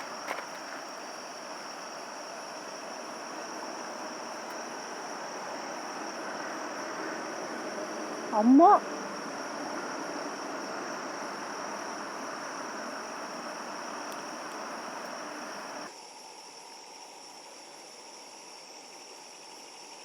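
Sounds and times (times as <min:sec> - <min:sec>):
crickets trilling: 0:00.0 - 0:17.4
background hiss: 0:00.0 - 0:20.0.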